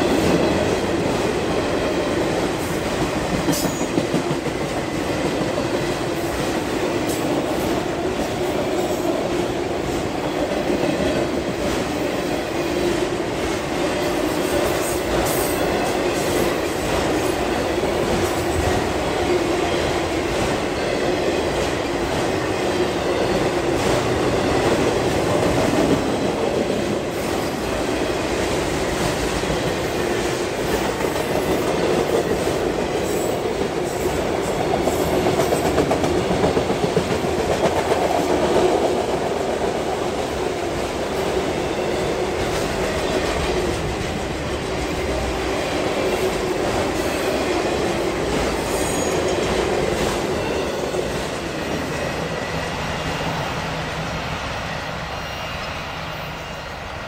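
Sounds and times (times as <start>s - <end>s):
freight train wheels rumbling and rattling: 0.0s - 57.0s.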